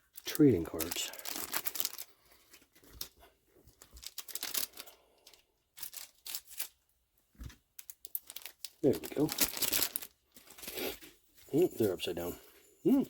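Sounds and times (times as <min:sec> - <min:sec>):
plastic wrapper crinkling and tearing: 0:00.0 - 0:06.8, 0:07.4 - 0:11.9.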